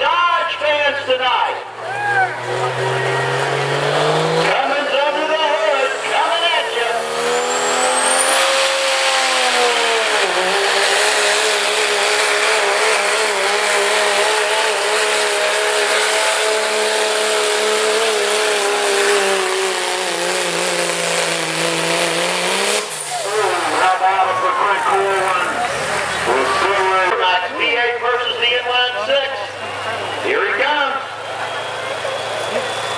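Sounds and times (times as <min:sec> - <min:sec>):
diesel engine at high revs: 0:00.0 - 0:32.9.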